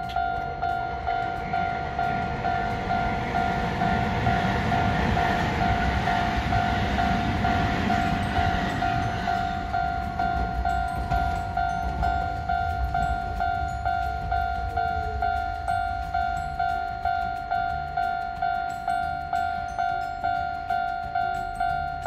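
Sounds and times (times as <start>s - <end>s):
level-crossing bell ringing: 0.0s - 22.0s
tram rolling rumble: 0.0s - 22.0s.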